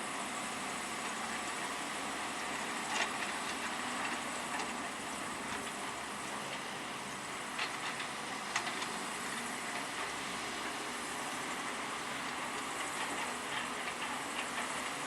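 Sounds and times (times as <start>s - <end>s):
construction machinery din: 0.4s - 15.0s.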